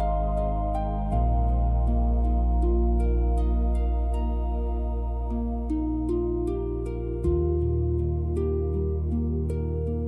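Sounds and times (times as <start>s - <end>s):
ambient new-age music drone: 0.0s - 10.0s
bass chord: 0.0s - 10.0s.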